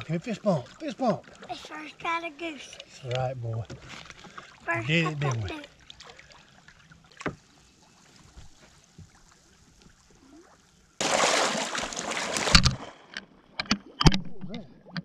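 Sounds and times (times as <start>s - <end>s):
water lapping around boat: 0.0s - 15.0s.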